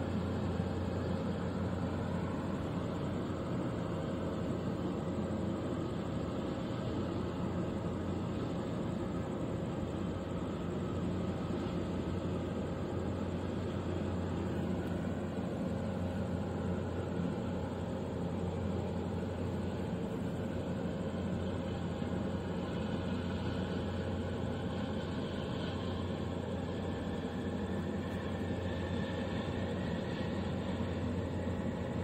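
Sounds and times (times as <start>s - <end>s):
ship engine drone: 0.0s - 32.0s.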